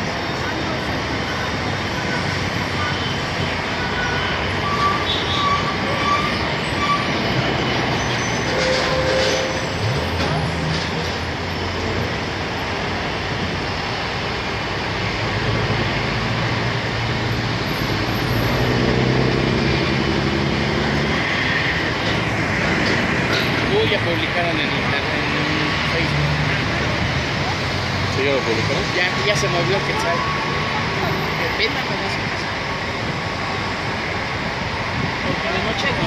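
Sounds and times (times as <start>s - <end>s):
traffic noise: 0.0s - 36.0s
vehicle engine: 0.0s - 36.0s.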